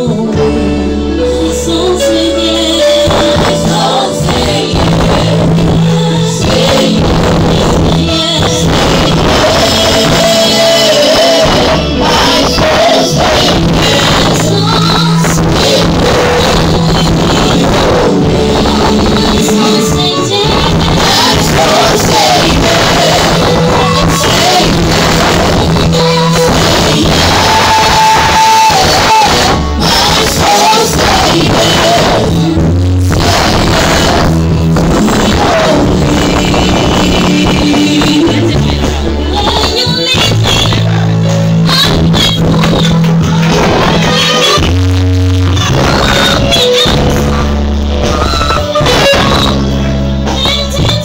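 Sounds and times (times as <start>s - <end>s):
live band with electric bass: 0.0s - 51.0s
woman singing gospel lead: 0.0s - 51.0s.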